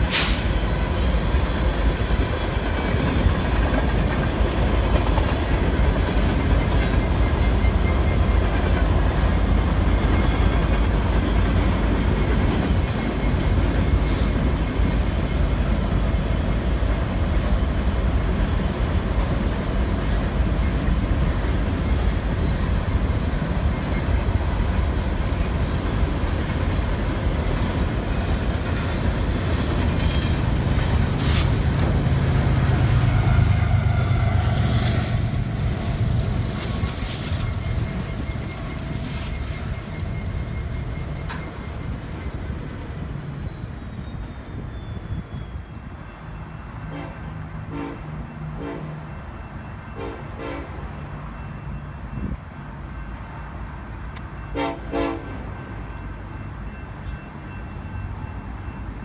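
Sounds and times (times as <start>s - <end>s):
diesel locomotives rumbling: 0.0s - 59.0s
train cars rolling on rails: 0.0s - 59.0s.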